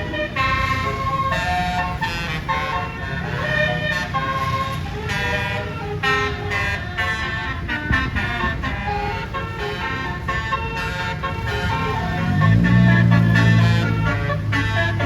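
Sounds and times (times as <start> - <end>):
air horns playing a tune: 0.0 - 15.0
bus engine rumble: 0.0 - 15.0.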